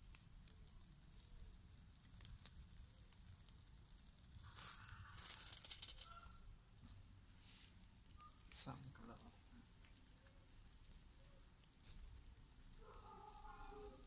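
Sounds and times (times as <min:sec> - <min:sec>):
chicken sizzling on charcoal grill: 0:00.0 - 0:14.0
hissing rustle: 0:00.0 - 0:14.0.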